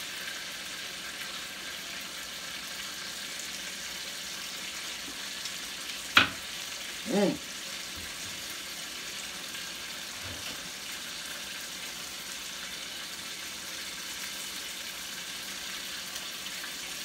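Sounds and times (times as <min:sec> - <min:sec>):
steak sizzling in a frying pan: 0:00.0 - 0:17.0.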